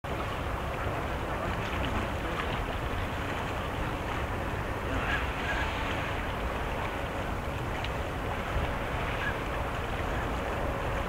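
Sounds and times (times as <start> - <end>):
water washing over shore: 0.0 - 11.0
wind rumble on microphone: 0.0 - 11.0.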